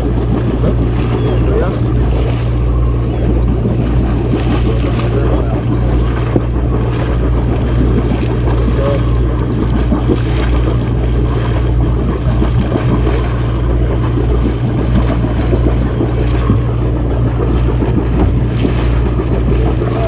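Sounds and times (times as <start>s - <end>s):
boat engine humming: 0.0s - 20.0s
water noise: 0.0s - 20.0s
wind: 0.0s - 20.0s.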